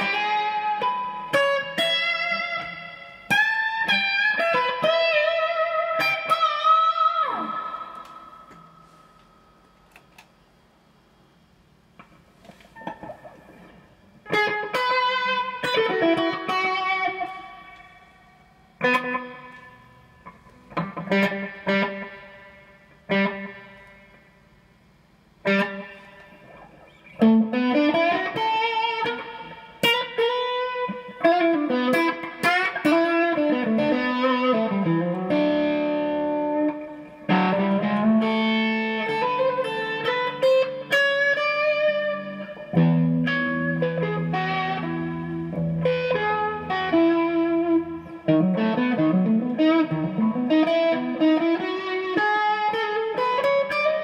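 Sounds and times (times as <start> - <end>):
electric guitar: 0.0 - 10.4, 12.0 - 24.6, 25.4 - 54.0.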